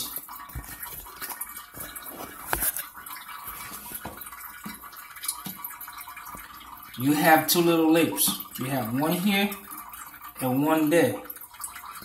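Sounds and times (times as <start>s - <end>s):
water dripping in toilet tank: 0.0s - 12.0s.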